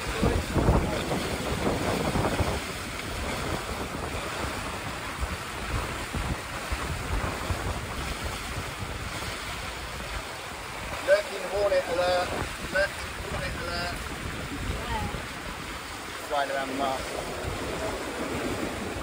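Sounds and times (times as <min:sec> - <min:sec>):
sea water washing: 0:00.0 - 0:19.0
wind buffeting microphone: 0:00.0 - 0:19.0.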